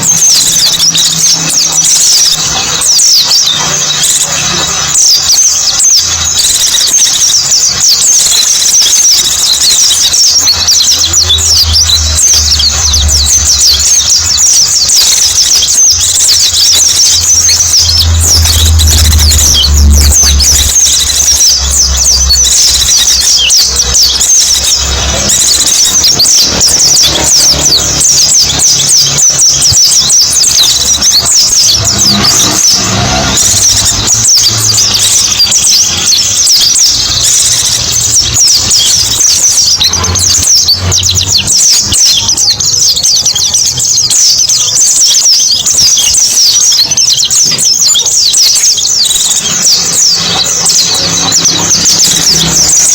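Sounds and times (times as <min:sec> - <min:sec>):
birds twittering: 0:00.0 - 0:52.9.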